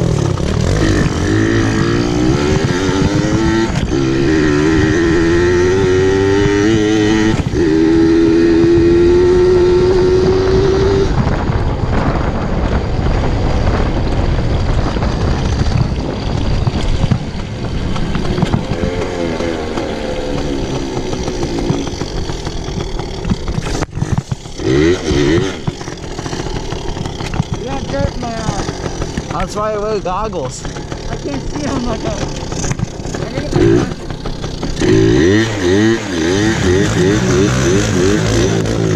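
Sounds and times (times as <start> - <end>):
pit bike engine revving: 0.0 - 38.9.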